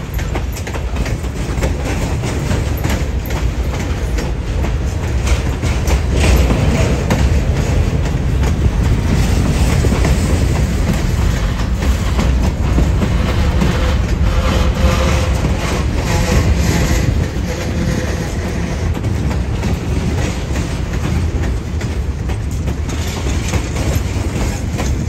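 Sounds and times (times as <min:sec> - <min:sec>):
train wheels rumbling on rail: 0:00.0 - 0:25.0
wheels clacking: 0:00.0 - 0:25.0.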